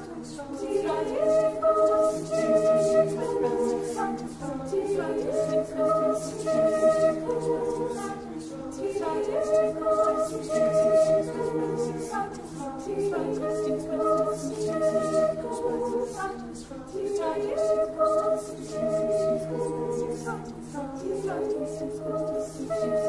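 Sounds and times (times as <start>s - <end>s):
a cappella choir singing: 0.0s - 23.0s.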